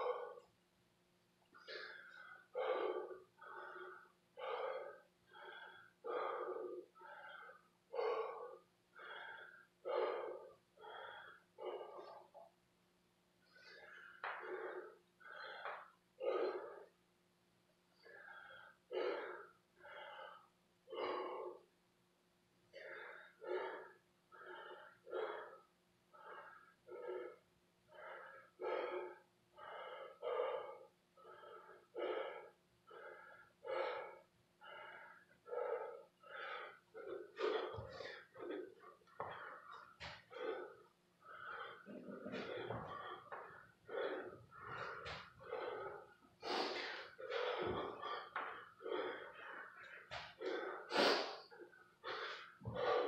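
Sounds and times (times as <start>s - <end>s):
man panting: 0.0s - 0.5s, 1.6s - 12.5s, 13.5s - 17.0s, 18.0s - 21.7s, 22.7s - 53.0s.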